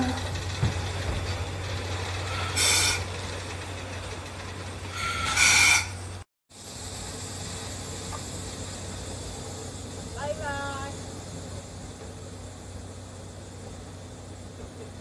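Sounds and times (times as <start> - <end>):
steam locomotive steam blasts: 0.0 - 15.0.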